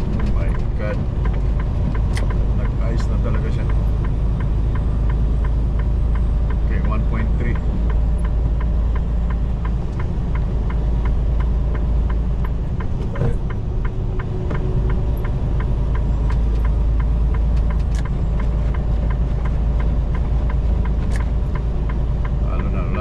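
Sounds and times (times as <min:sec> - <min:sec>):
truck engine and road rumble: 0:00.0 - 0:23.0
rapid even ticking: 0:00.3 - 0:23.0.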